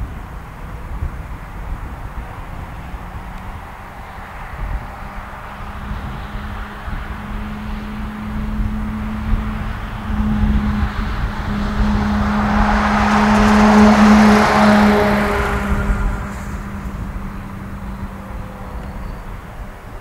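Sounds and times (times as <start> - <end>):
diesel truck driving past: 3.8 - 20.0.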